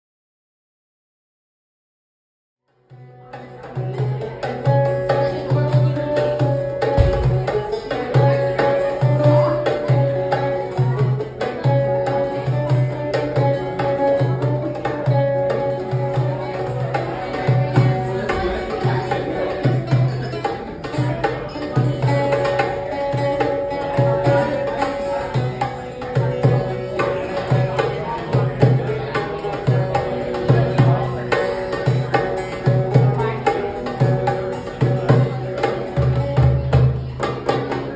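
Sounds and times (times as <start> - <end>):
hand drum rhythm: 2.8 - 37.9
amplified plucked string melody: 2.9 - 37.9.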